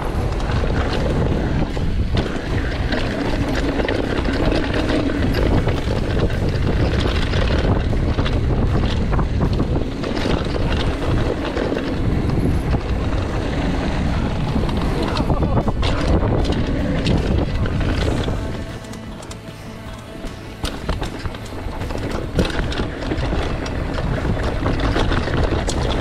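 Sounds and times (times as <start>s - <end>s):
wind on microphone: 0.0s - 19.5s, 20.2s - 26.0s
bike clicks and rattles: 0.0s - 26.0s
bike tyre rumble on dirt: 0.0s - 26.0s.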